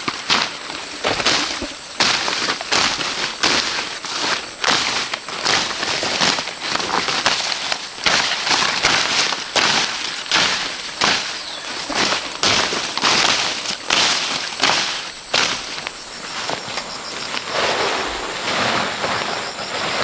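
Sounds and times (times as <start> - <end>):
hand tool scraping sand and gravel: 0.0 - 20.0.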